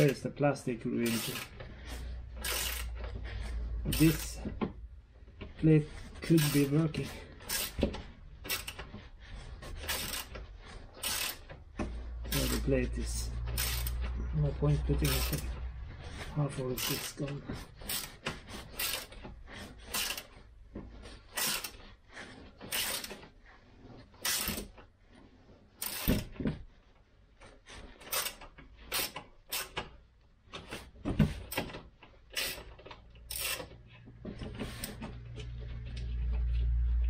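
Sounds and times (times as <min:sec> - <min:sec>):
hand tool clicks and scrapes: 0:00.0 - 0:23.3, 0:24.0 - 0:24.9, 0:25.8 - 0:26.4, 0:27.4 - 0:37.0.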